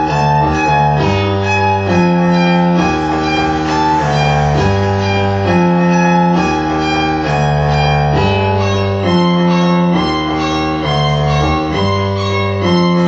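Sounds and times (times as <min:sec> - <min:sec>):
synthesizer music: 0:00.0 - 0:13.0.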